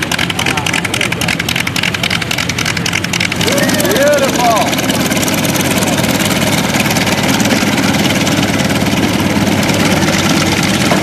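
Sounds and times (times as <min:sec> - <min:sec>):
radial engine running: 0:00.0 - 0:11.0.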